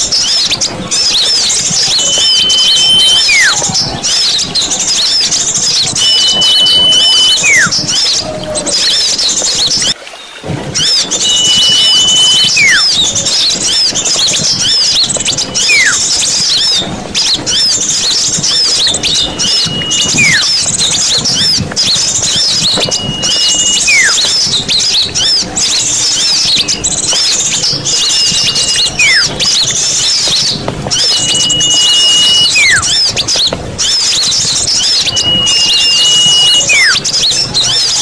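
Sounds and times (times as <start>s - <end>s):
small birds chattering: 0.0s - 38.0s
whistle with downward slide: 0.2s - 10.0s, 10.8s - 38.0s.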